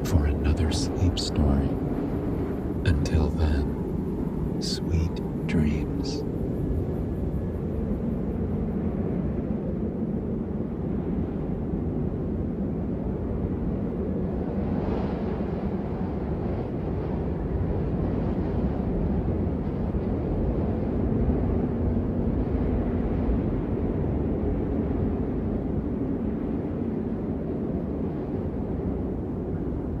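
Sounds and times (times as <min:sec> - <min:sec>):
low rushing wind: 0:00.0 - 0:30.0.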